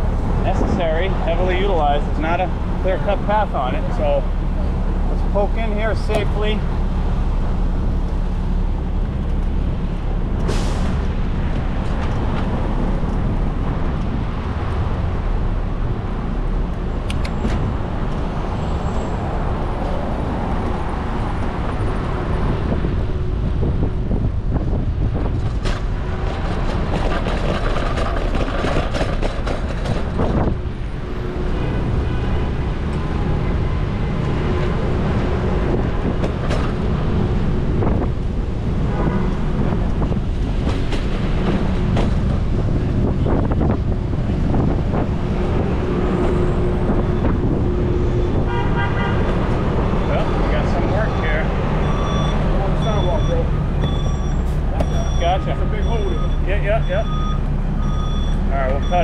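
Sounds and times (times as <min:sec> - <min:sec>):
wind rumble on microphone: 0:00.0 - 0:52.5
cars passing: 0:00.0 - 0:59.0.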